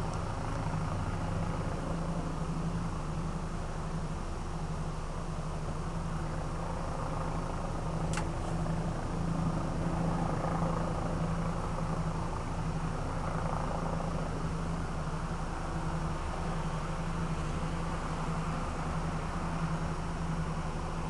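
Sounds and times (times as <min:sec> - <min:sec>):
helicopter droning: 0:00.0 - 0:21.0.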